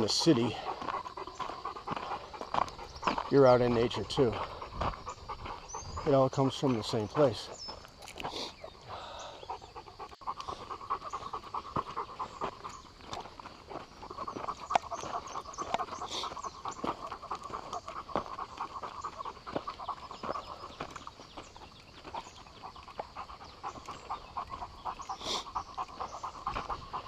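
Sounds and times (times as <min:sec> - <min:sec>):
rapid panting breath: 0:00.0 - 0:27.0.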